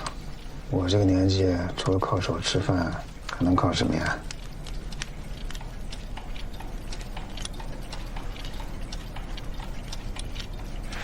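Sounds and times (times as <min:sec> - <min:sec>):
clocks ticking: 0:00.0 - 0:11.0
low steady hum: 0:00.0 - 0:11.0.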